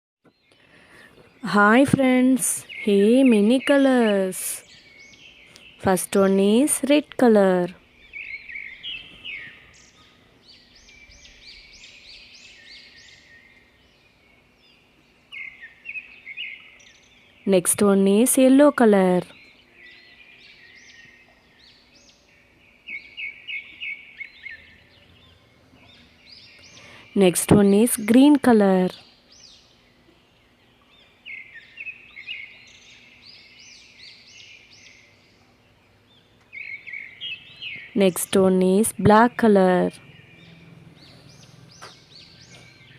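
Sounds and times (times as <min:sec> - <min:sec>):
bird chirping: 0:00.2 - 0:42.9.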